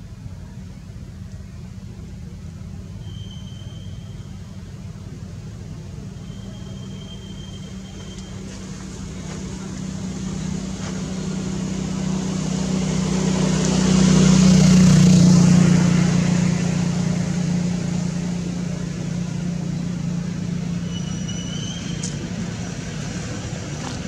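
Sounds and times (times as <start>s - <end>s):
road noise: 0.0s - 24.0s
vehicle engine hum: 0.0s - 24.0s.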